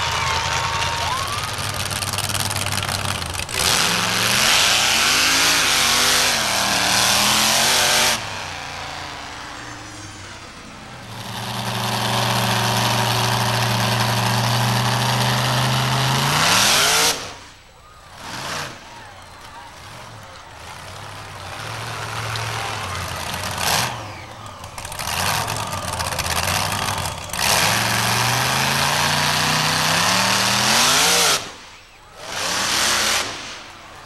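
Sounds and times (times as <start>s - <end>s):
monster truck engine revving: 0.0s - 34.0s.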